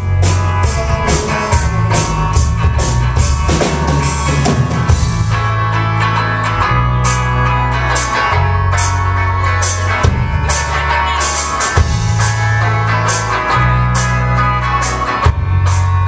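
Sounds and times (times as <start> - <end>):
bass notes: 0.0 - 16.0
live band playing country-rock: 0.0 - 16.0.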